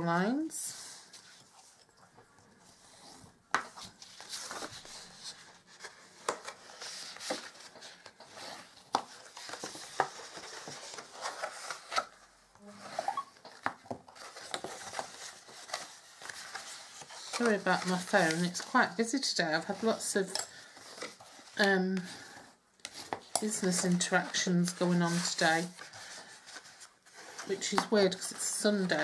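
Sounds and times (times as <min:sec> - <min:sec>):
cardstock folding and crackling: 0:02.5 - 0:29.0
paper rustling: 0:02.8 - 0:19.0, 0:19.6 - 0:29.0.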